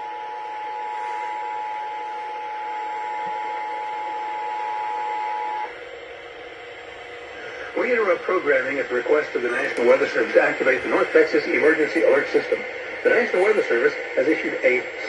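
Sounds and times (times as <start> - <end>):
radio hiss: 0.1 - 6.2, 7.0 - 15.0.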